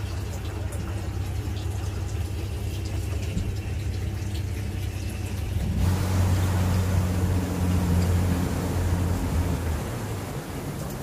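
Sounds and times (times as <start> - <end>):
boat engine humming: 0.0 - 11.0
water rushing along hull: 0.0 - 11.0.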